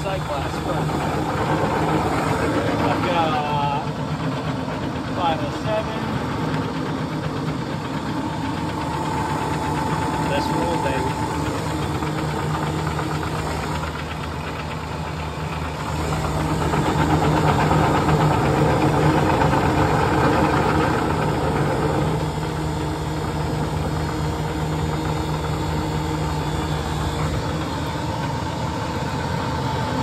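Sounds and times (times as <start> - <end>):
refrigeration compressor humming: 0.0 - 30.0.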